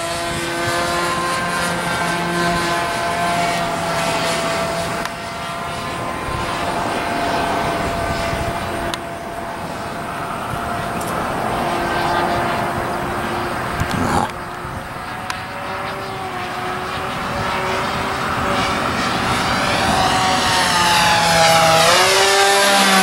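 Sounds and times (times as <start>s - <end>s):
model airplane engine running: 0.0s - 23.0s.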